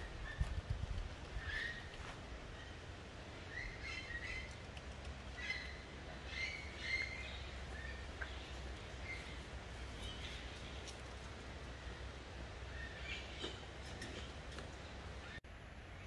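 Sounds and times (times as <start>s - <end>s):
birds chirping: 1.3s - 16.0s.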